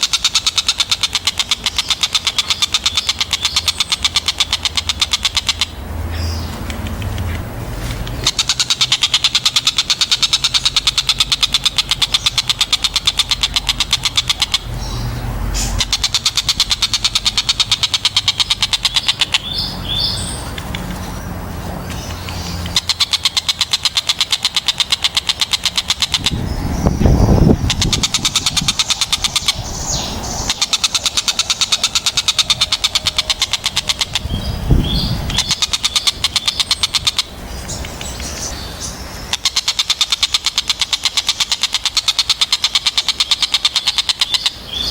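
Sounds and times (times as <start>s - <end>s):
kingfisher rattling trills: 0.0s - 7.2s, 8.0s - 44.9s.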